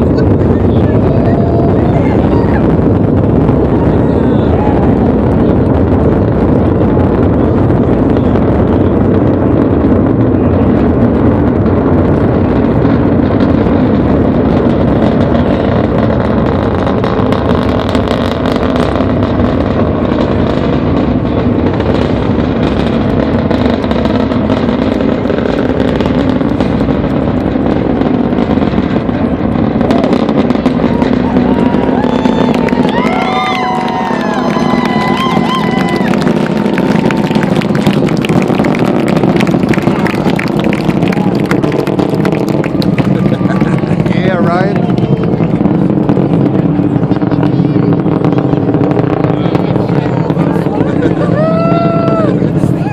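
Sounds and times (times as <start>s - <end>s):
distant rocket engine rumble: 0.0s - 52.9s.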